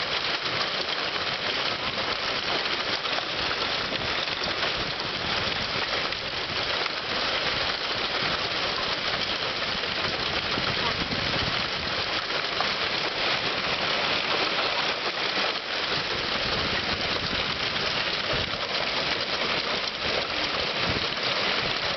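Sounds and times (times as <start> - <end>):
hail pelting down: 0.0 - 21.9.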